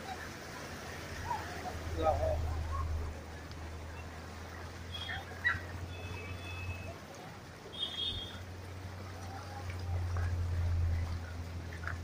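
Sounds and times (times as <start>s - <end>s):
faint distant voices: 0.0s - 12.0s
floodwater sloshing and trickling: 0.0s - 12.0s.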